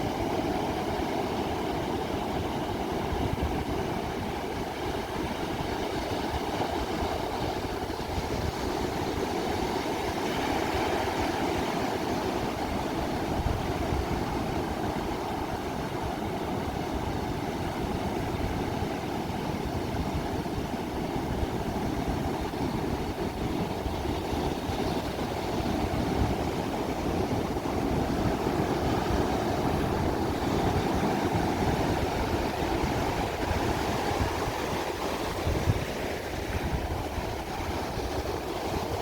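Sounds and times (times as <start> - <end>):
ocean waves: 0.0 - 39.0.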